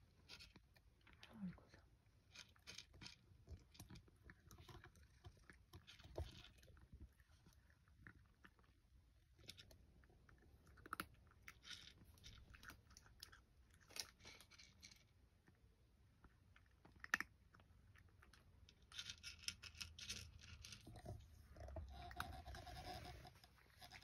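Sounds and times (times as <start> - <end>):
cat crunching dry kibble: 0.0 - 24.0.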